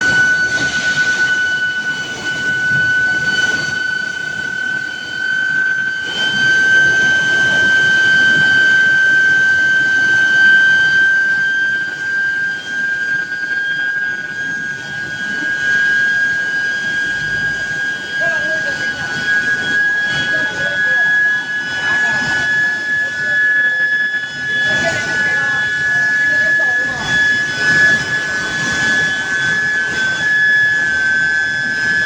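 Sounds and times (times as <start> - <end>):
forge shop noise: 0.0 - 32.0
furnace high-pitched whine: 0.0 - 32.0.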